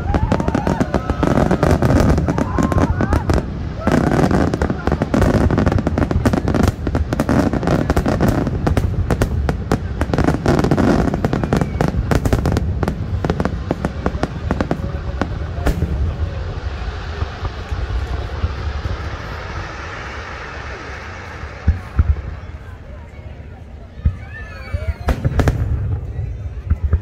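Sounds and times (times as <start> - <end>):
fireworks bangs and pops: 0.0 - 22.8, 24.0 - 27.0.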